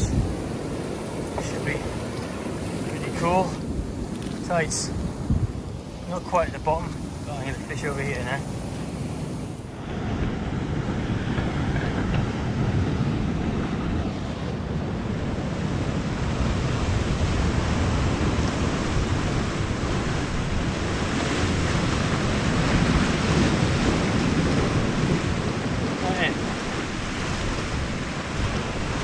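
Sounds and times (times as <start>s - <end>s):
sea surf washing over rocks: 0.0s - 29.0s
wind buffeting the microphone: 0.0s - 29.0s.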